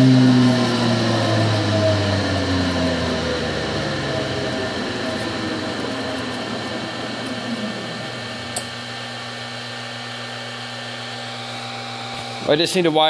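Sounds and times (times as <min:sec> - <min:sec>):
motor whine spinning down: 0:00.0 - 0:13.0
steady hum: 0:00.0 - 0:13.0.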